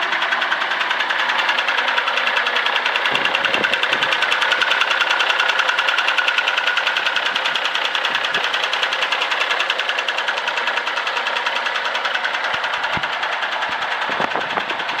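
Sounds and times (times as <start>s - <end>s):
diesel truck engine clattering: 0.0s - 15.0s.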